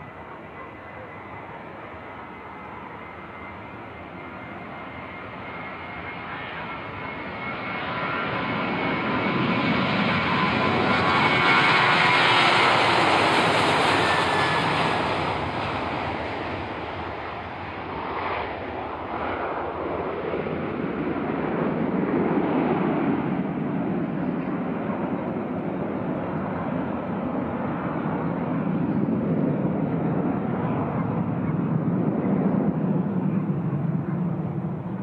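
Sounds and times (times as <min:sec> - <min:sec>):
jet airliner passing by: 0:00.0 - 0:35.0.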